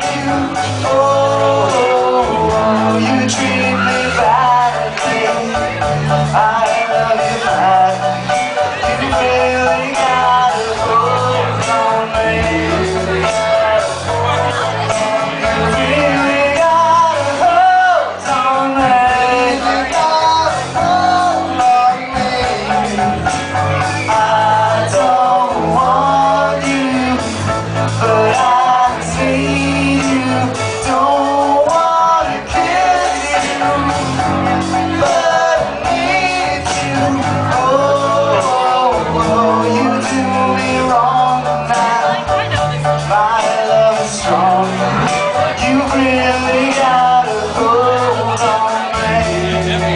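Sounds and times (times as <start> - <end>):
drums: 0.0 - 49.9
man singing: 0.0 - 49.9
piano: 0.0 - 49.9.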